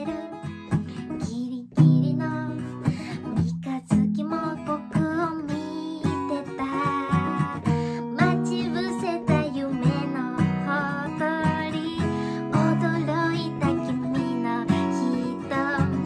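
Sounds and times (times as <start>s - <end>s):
strummed acoustic guitar: 0.0s - 16.0s
woman singing a pop ballad: 0.0s - 16.0s.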